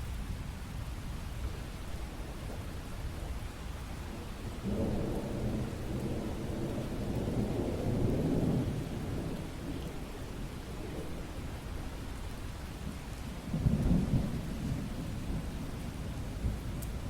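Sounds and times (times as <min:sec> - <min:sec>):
low rumble of thunder: 0:00.0 - 0:17.0
rain hiss: 0:00.0 - 0:17.0.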